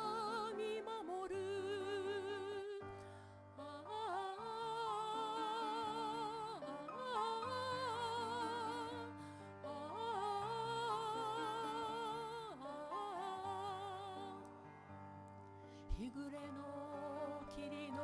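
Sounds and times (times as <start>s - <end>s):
woman singing with vibrato: 0.0s - 3.0s, 3.6s - 14.4s, 16.0s - 18.0s
grand piano: 0.0s - 18.0s.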